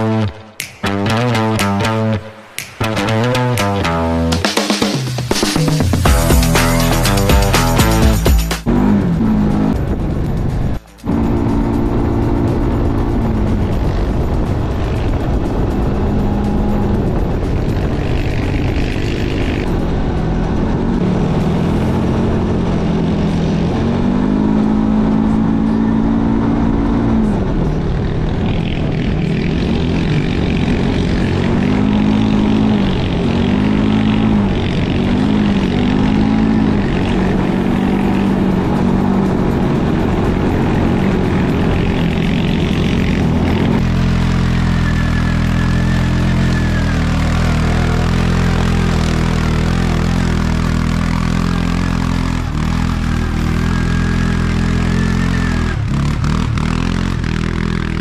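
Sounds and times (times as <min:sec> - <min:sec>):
atv engines revving: 0:00.0 - 0:04.4, 0:05.3 - 0:58.0.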